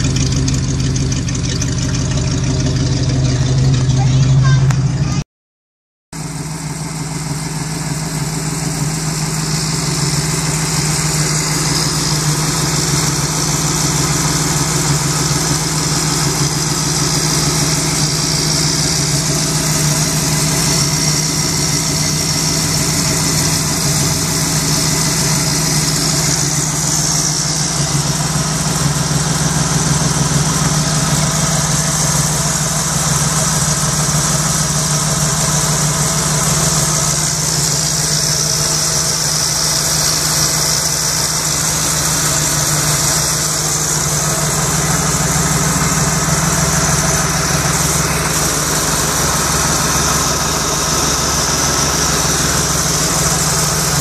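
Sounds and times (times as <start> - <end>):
car engine idling: 0.0 - 5.2, 6.2 - 54.0.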